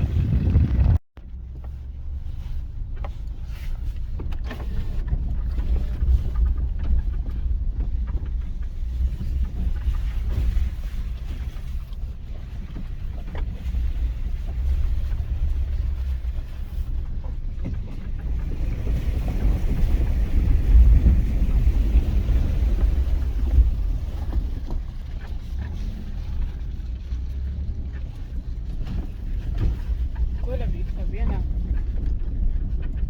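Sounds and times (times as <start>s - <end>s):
engine and road noise rumble: 0.0s - 33.0s.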